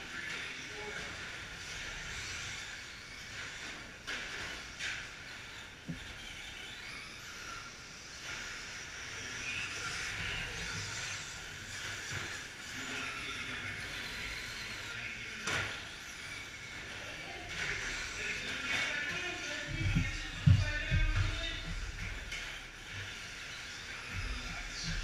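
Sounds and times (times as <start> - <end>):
rc trucks motors whining: 0.0 - 25.0.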